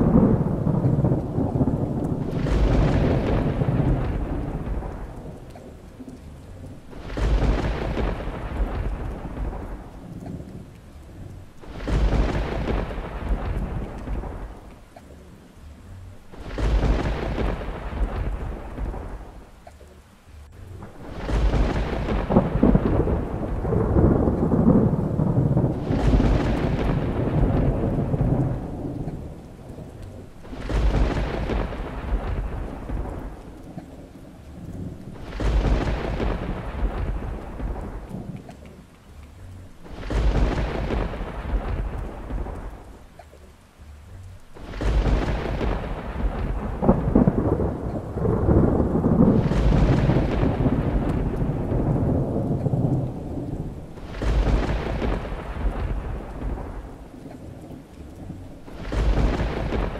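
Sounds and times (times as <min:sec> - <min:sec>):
thunder claps rolling: 0:00.0 - 0:43.4, 0:44.2 - 0:59.9
rain: 0:00.0 - 0:59.9.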